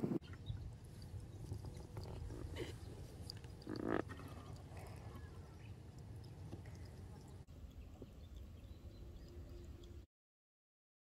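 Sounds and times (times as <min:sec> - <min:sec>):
low steady rumble: 0:00.3 - 0:10.0.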